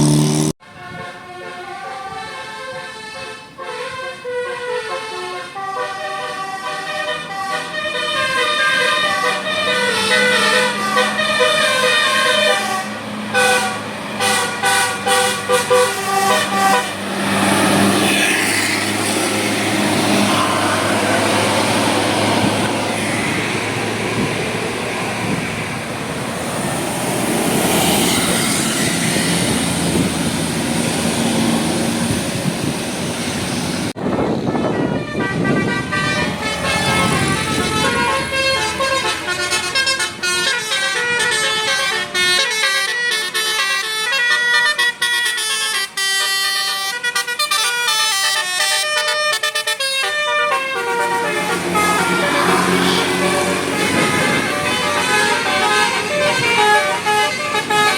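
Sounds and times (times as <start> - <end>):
musical air horn melody: 0.0 - 23.1, 34.0 - 57.9
vehicle and road noise: 0.0 - 57.9.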